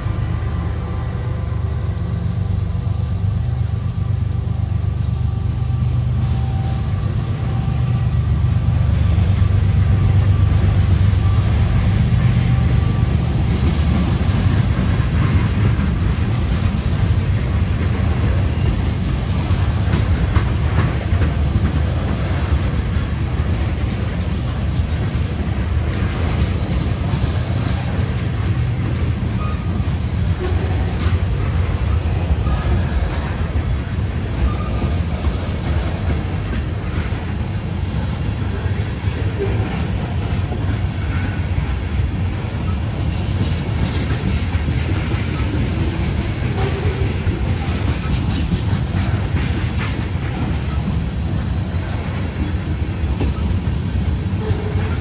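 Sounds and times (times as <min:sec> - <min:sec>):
diesel locomotive rumbling: 0:00.0 - 0:55.0
train wheel clicks: 0:08.9 - 0:55.0.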